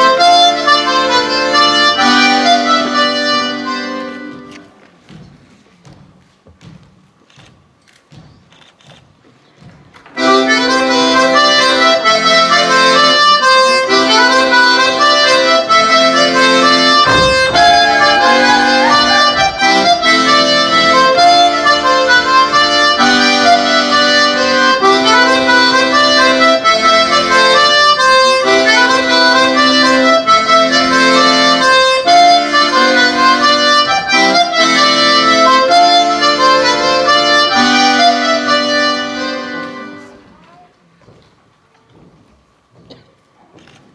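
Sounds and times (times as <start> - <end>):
accordion dance tune: 0.0 - 7.0, 8.1 - 40.4.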